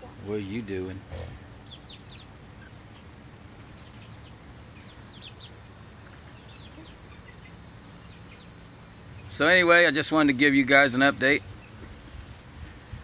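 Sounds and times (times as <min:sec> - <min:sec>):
chicks peeping: 0:00.0 - 0:13.0
faint steady hum: 0:00.0 - 0:13.0.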